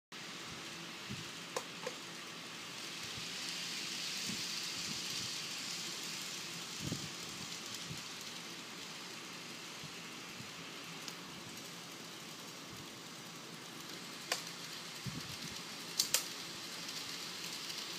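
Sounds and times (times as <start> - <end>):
model trains whirring: 0.2 - 17.9.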